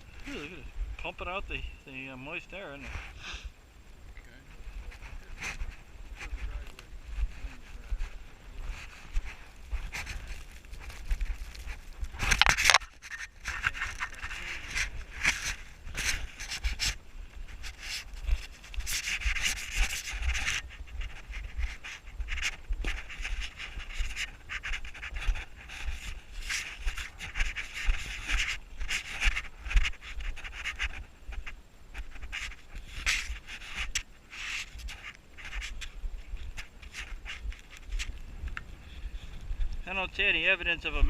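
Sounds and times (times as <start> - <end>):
wind rumble on microphone: 0.0 - 1.6, 2.9 - 41.0
footsteps crunching through snow: 4.6 - 40.0.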